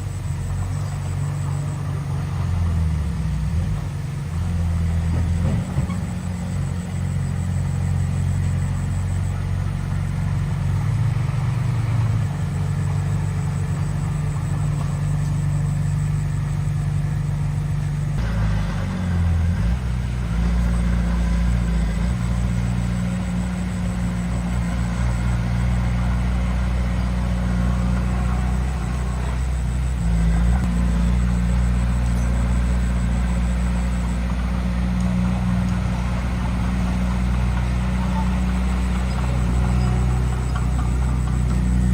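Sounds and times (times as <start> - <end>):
diesel machinery engine drone: 0.0 - 41.9.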